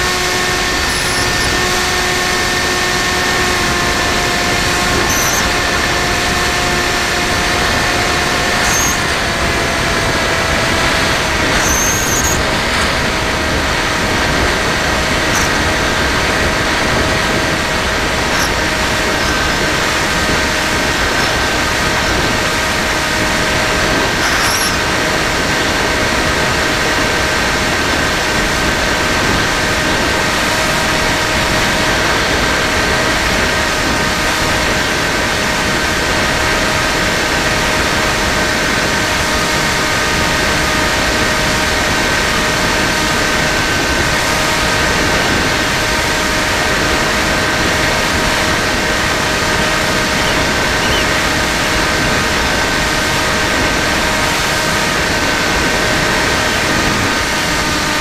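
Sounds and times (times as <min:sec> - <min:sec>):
electric motor and propeller whine: 0:00.0 - 0:58.0
wind rushing on microphone: 0:00.0 - 0:58.0.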